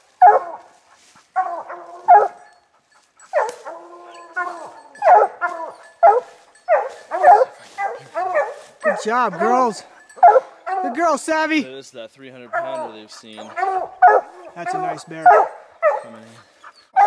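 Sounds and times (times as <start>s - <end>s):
hounds barking and bawling: 0.0s - 11.7s, 12.3s - 17.0s.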